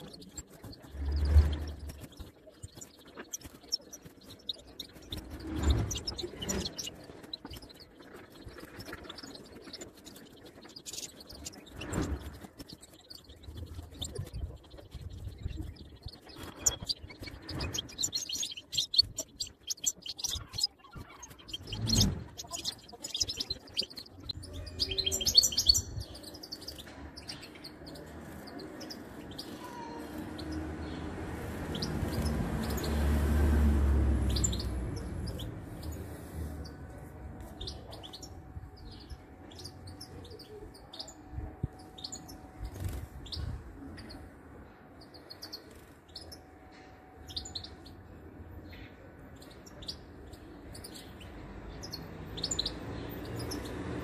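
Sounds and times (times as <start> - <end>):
high bird chirps: 0.0 - 33.4, 34.2 - 54.0.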